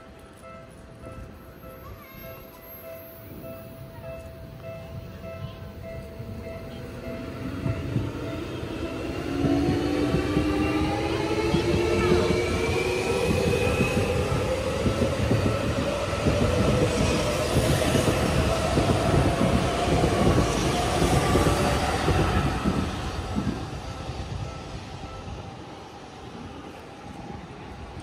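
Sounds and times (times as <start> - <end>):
wheels rumbling on rails: 0.0 - 28.0.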